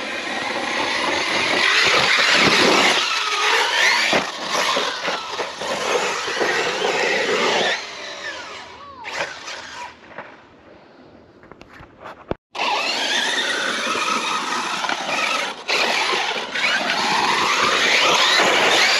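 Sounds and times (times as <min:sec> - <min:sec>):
electric motor whine: 0:00.0 - 0:10.0, 0:12.6 - 0:18.9.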